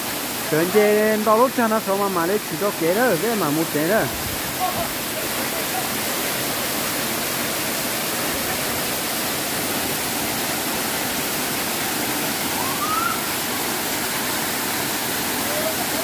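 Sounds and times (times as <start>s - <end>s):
waterfall pouring onto rock: 0.0s - 16.0s.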